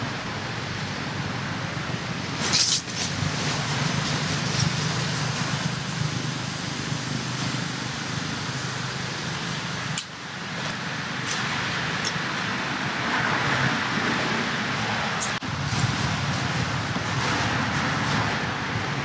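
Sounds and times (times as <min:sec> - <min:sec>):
traffic drone: 0:00.0 - 0:19.0.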